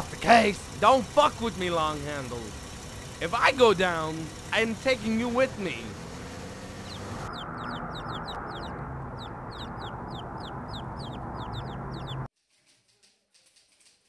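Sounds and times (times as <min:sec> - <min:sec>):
birds chirping: 0:00.0 - 0:12.3
steady low hum: 0:00.0 - 0:12.3.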